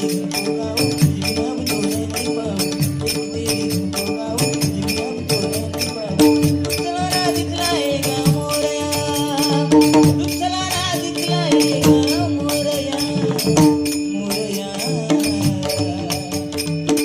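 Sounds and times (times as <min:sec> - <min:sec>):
jingling small cymbals: 0:00.0 - 0:17.0.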